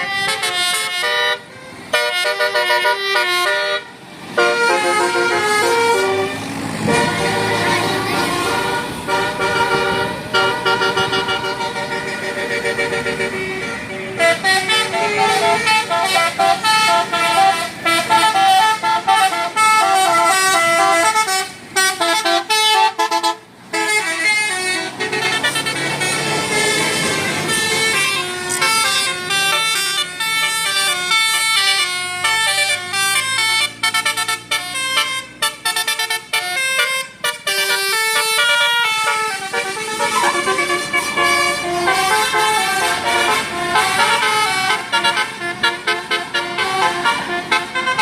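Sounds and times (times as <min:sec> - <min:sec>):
musical air horn: 0:00.0 - 0:48.0.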